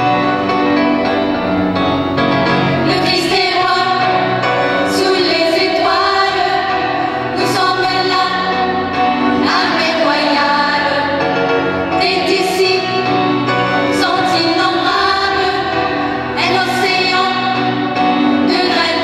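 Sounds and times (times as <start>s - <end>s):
choir singing: 0.0s - 19.0s
instrumental backing: 0.0s - 19.0s.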